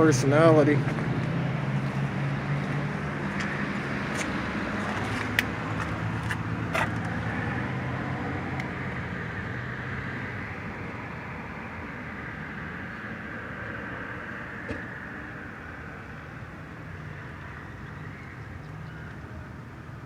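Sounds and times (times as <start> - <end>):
outdoor traffic noise: 0.0 - 20.0.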